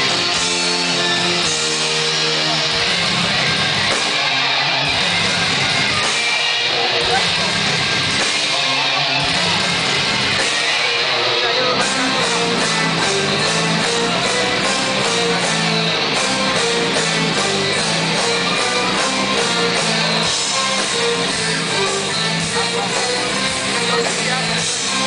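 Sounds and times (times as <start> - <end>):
electric guitar: 0.0 - 25.0
live band music: 0.0 - 25.0.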